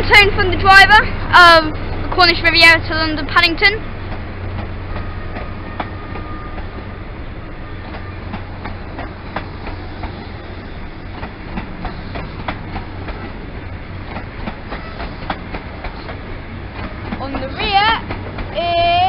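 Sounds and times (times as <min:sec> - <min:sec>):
train rumble: 0:00.0 - 0:19.0
wheels clicking over rail joints: 0:00.0 - 0:19.0.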